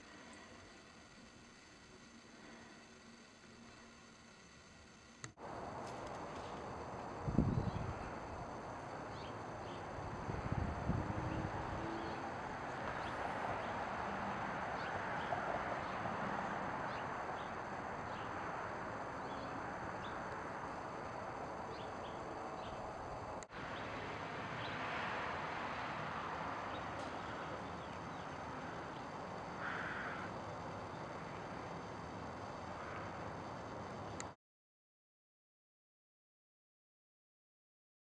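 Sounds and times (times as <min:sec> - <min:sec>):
steady background hiss: 0:00.0 - 0:34.3.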